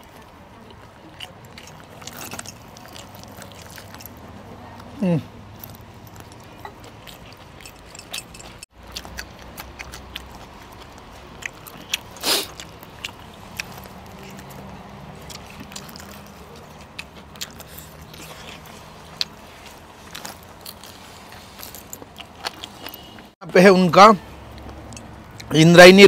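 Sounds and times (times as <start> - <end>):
person chewing and biting: 0.7 - 4.4, 5.5 - 23.4.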